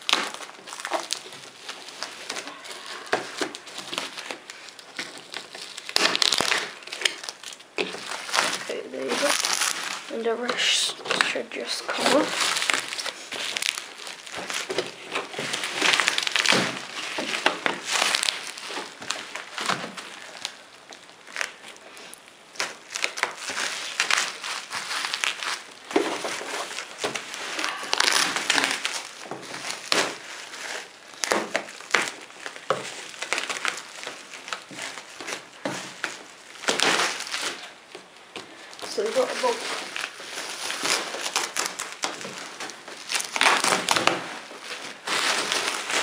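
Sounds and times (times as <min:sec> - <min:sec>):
bubble wrap crinkling and snapping: 0:00.0 - 0:46.0.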